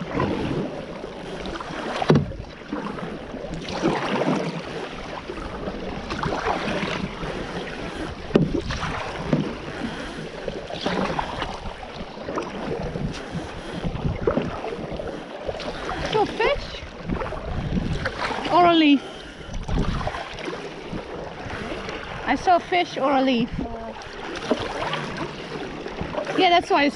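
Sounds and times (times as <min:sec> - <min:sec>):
kayak paddle strokes: 0:00.0 - 0:26.9
water splashing: 0:00.0 - 0:26.9
wind on microphone: 0:00.0 - 0:26.9.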